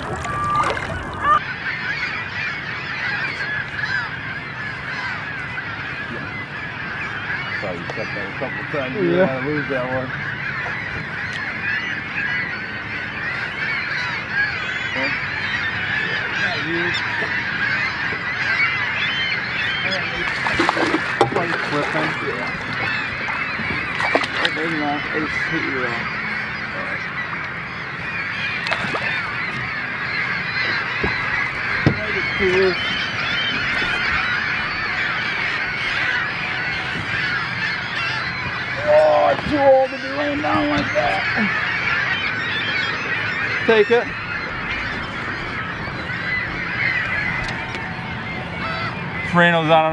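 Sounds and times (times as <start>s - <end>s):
flock of birds calling: 0.0s - 49.9s.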